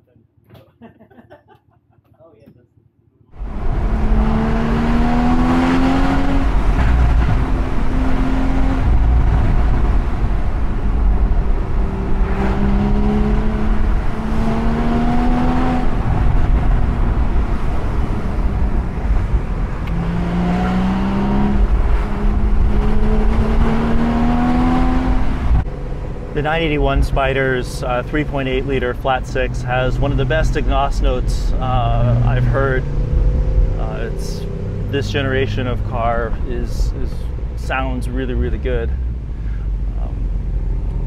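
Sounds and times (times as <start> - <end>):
wind and road noise: 3.3 - 41.0
car engine revving: 3.4 - 41.0.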